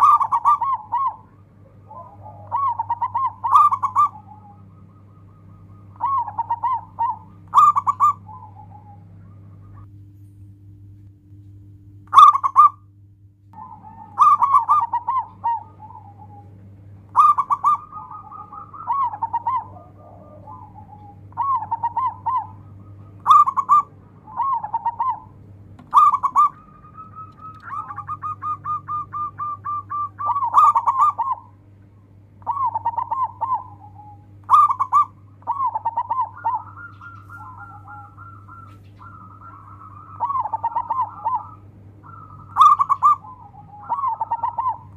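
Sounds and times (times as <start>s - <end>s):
dove cooing: 0.0s - 9.9s, 12.1s - 12.9s, 13.6s - 44.9s
steady low hum: 0.0s - 44.9s.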